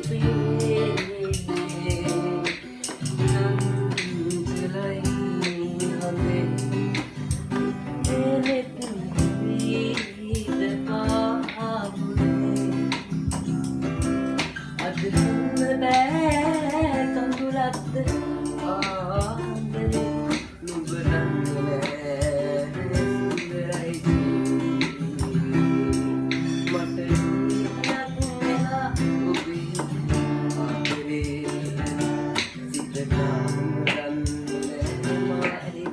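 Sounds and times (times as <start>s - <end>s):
boy singing with vibrato: 0.0s - 35.9s
strummed acoustic guitar: 0.0s - 35.9s.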